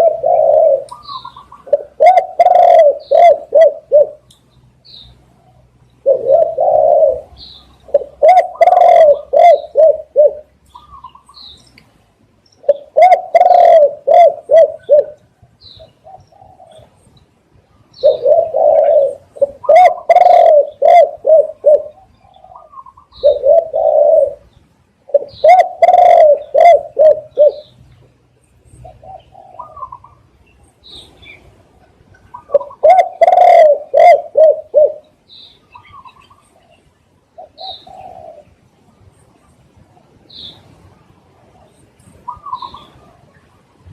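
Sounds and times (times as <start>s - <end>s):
dove cooing: 0.0s - 4.3s, 5.2s - 11.4s, 12.6s - 17.0s, 17.8s - 27.8s, 28.8s - 31.4s, 32.2s - 38.6s, 41.4s - 43.3s.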